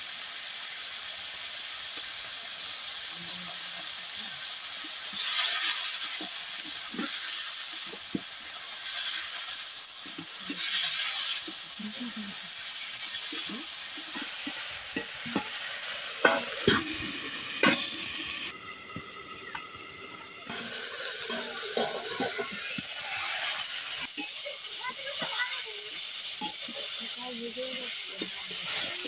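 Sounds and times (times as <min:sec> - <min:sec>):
food sizzling: 0:00.0 - 0:29.0
spatula scraping wok: 0:02.6 - 0:18.6, 0:19.4 - 0:29.0.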